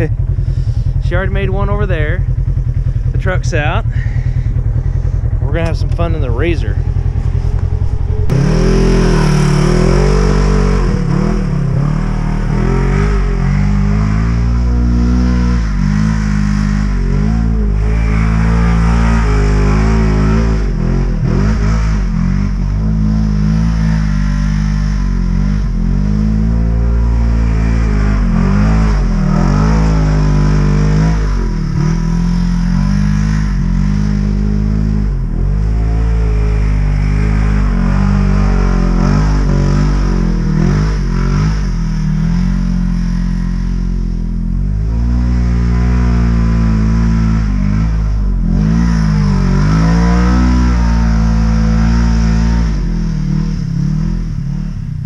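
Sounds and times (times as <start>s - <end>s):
engine revving: 0.0s - 55.0s.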